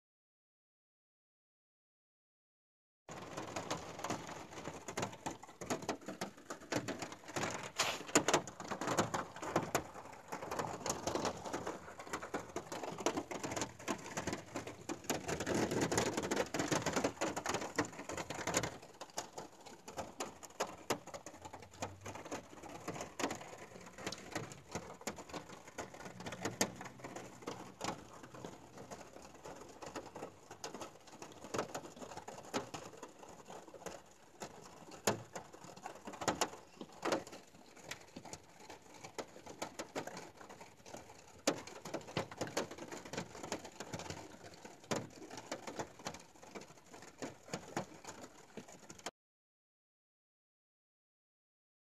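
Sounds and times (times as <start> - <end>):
rain on a car roof: 3.1 - 49.1.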